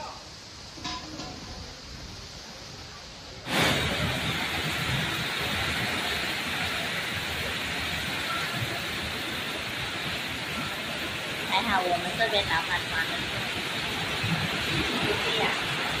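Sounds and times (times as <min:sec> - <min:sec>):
torrential rain hissing: 0:00.0 - 0:16.0.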